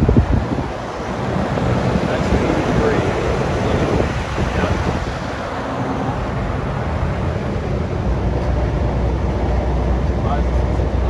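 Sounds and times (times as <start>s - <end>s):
low outdoor rumble: 0.0s - 11.0s
wind buffeting microphone: 0.0s - 11.0s.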